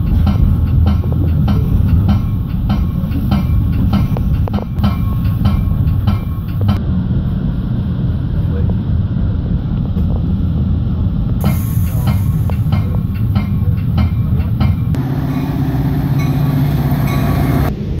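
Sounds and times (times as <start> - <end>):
train wheels clicking on rails: 0.0 - 6.9, 9.5 - 18.0
diesel locomotive droning: 0.0 - 18.0
train rumbling: 0.0 - 18.0.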